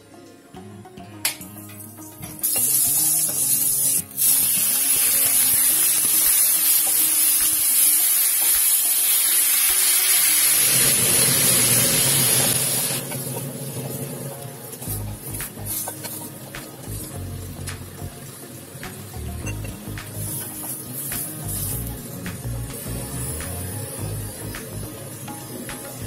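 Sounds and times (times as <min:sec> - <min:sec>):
vegetables sizzling in hot oil: 0:02.4 - 0:26.0.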